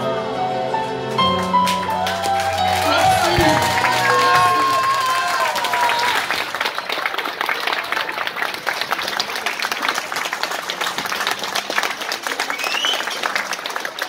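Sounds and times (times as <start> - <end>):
audience applauding: 1.1 - 14.0.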